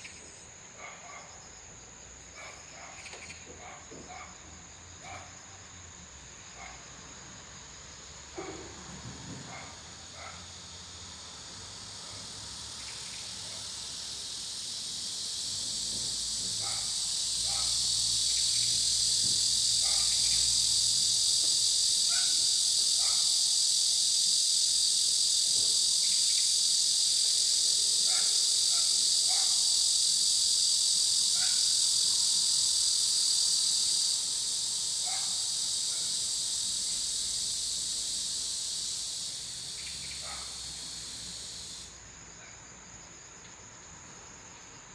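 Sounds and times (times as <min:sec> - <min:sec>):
insects buzzing: 0:00.0 - 0:44.9.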